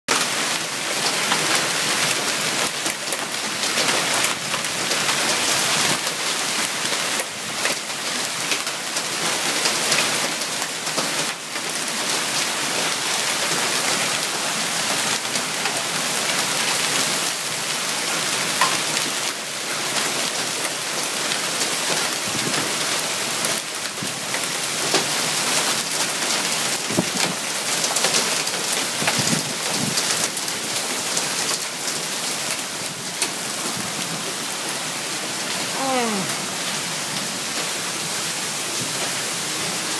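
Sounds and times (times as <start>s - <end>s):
hail and rain pelting: 0.1s - 39.9s.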